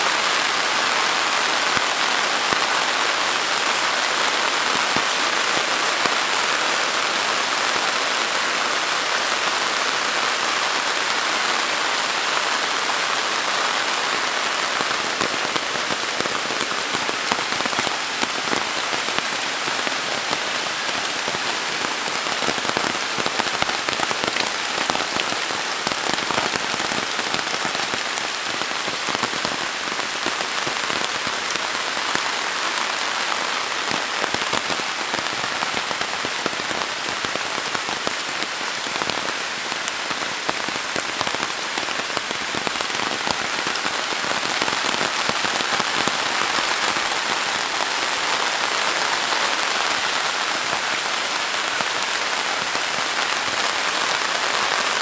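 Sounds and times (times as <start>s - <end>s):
heavy rain on foliage and road: 0.0s - 55.0s.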